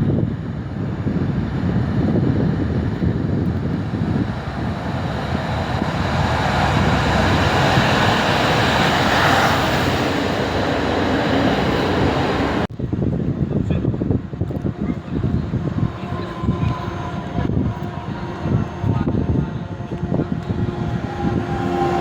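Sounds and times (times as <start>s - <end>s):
train rushing rumble: 0.0s - 22.0s
wind on microphone: 0.0s - 22.0s.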